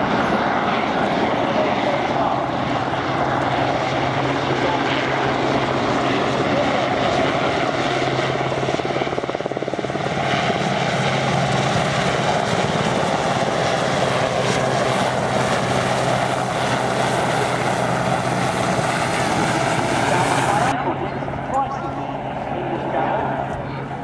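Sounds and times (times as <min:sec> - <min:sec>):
helicopter rotor chop: 0:00.0 - 0:24.0.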